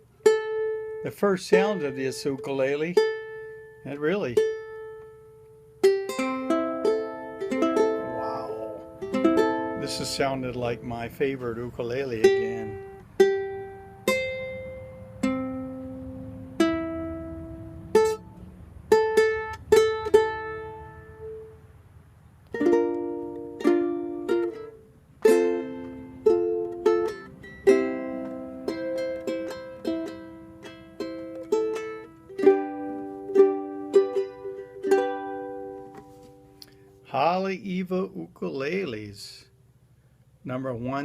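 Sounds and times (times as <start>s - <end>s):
ukulele plucking and strumming: 0.0s - 21.8s, 22.4s - 37.1s.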